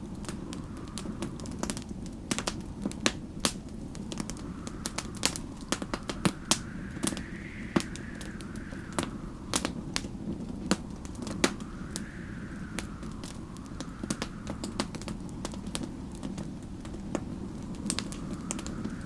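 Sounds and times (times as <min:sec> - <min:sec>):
faint storm wind howling: 0:00.0 - 0:19.0
low fire rumble: 0:00.0 - 0:19.0
wood fire crackling: 0:00.0 - 0:19.0.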